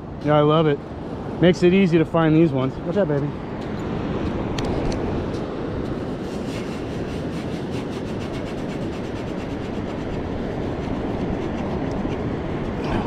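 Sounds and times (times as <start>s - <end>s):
wind on microphone: 2.2s - 13.0s.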